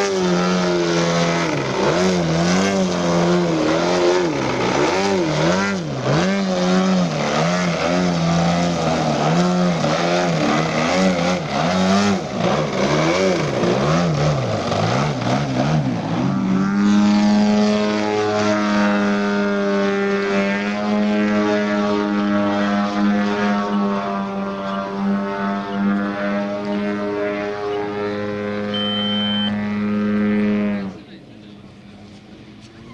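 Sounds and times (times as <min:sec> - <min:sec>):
model airplane engine and propeller: 0:00.0 - 0:32.9.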